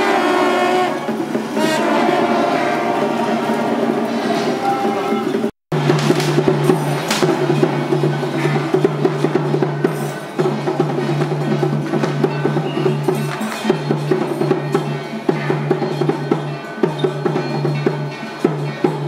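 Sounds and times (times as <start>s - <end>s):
drums: 0.0s - 19.0s.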